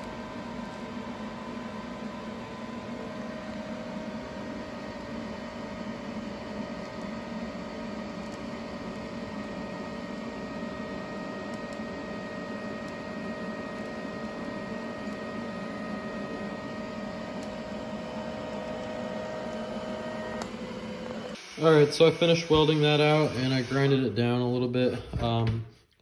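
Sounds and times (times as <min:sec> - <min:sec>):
welding arc buzzing: 0:00.0 - 0:24.1.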